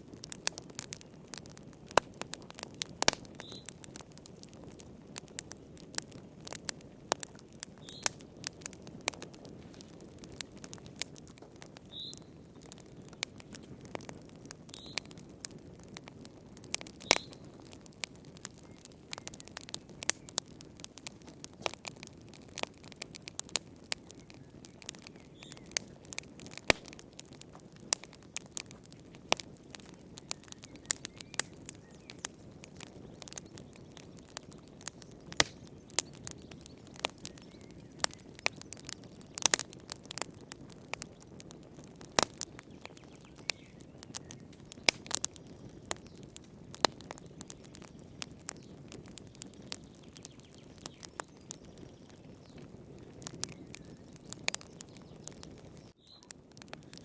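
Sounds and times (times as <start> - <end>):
wood fire crackling in a fireplace: 0.0 - 57.0.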